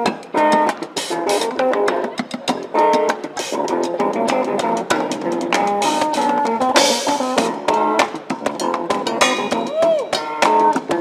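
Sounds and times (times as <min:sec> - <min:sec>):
bass guitar riffs: 0:00.0 - 0:11.0.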